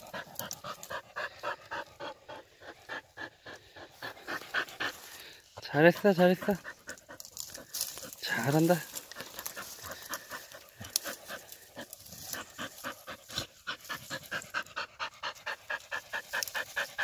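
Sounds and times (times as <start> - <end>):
dogs panting hard: 0.0 - 17.0.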